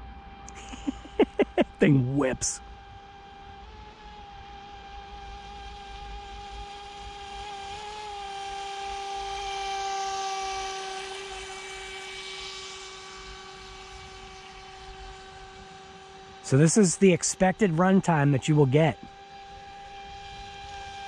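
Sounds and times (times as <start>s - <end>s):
model boat motor whine: 0.0s - 1.1s, 1.8s - 21.0s.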